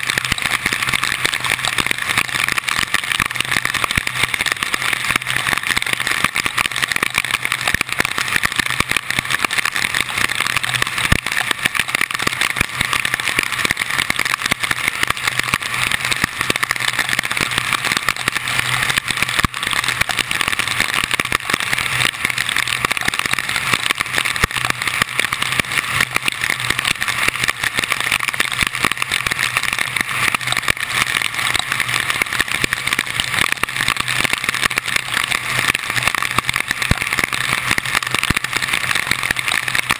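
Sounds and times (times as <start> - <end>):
raindrops ticking on camera: 0.0 - 39.9.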